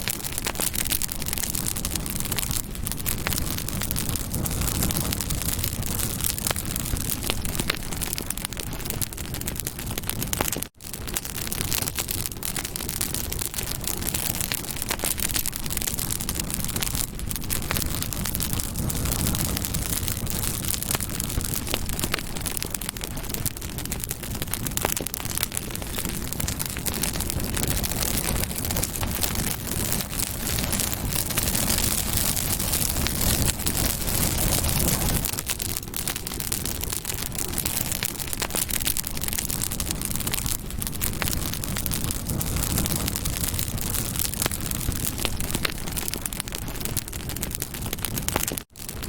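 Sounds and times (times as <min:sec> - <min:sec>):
campfire crackling: 0:00.0 - 0:49.0.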